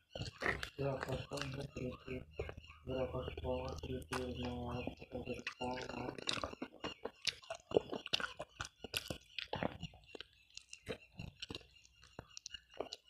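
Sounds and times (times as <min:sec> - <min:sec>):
chewing and biting chicken: 0:00.0 - 0:13.0
mouth clicks: 0:00.1 - 0:13.0.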